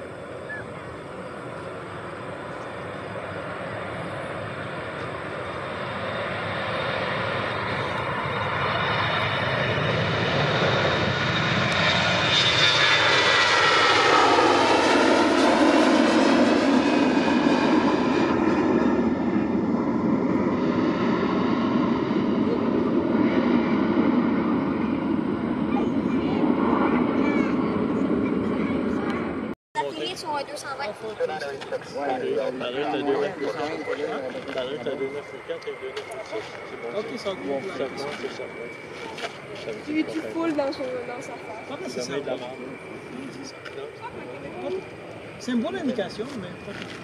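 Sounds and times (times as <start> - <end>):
jet airliner passing: 0.0 - 47.0.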